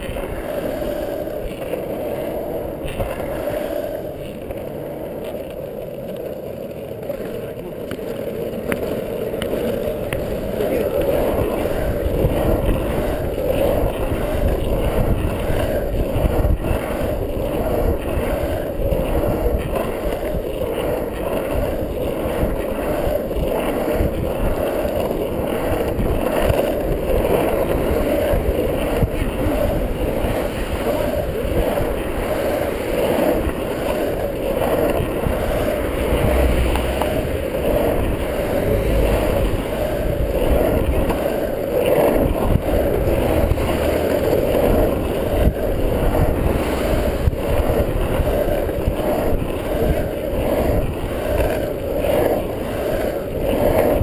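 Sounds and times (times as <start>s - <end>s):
longboard wheels rolling on asphalt: 0.0s - 54.0s.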